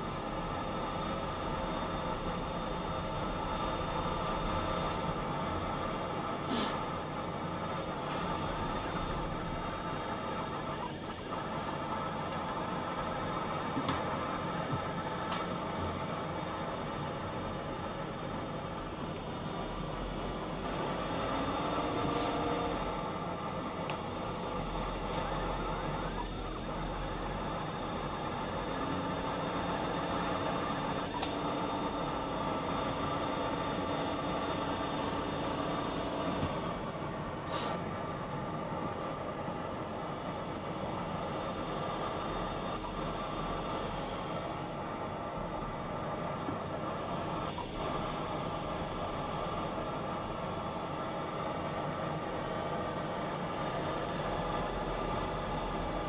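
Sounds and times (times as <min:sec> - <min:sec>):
machinery hum and hiss: 0:00.0 - 0:56.0.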